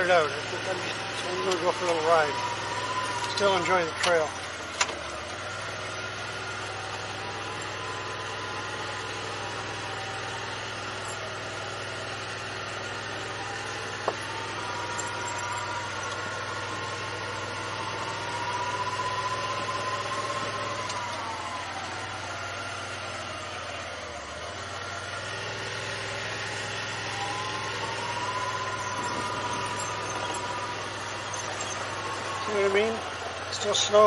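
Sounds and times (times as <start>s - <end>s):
engine whine: 0.0s - 34.0s
vehicle engine running: 0.0s - 34.0s.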